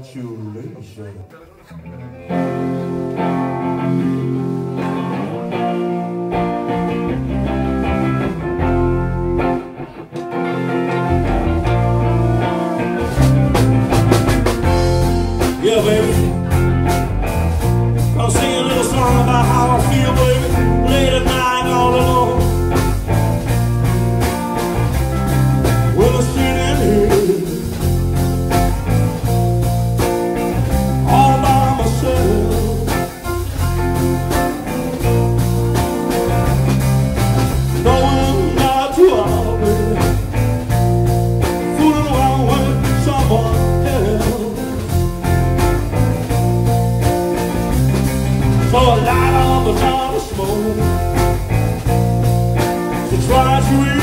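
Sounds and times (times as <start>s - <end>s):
bass: 0.0s - 54.0s
electric guitars: 1.2s - 54.0s
drums: 2.3s - 54.0s.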